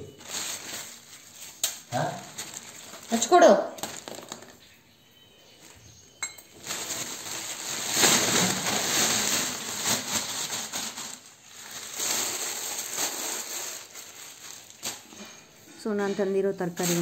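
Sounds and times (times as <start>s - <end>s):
plastic bags crinkling: 0.0s - 4.8s, 5.6s - 15.7s, 16.6s - 17.0s.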